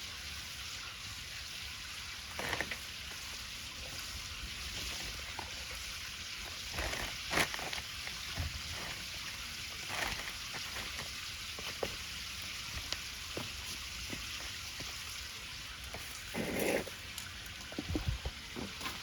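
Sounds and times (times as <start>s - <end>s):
wood fire hissing and crackling: 0.0s - 19.0s
rustle: 0.1s - 19.0s.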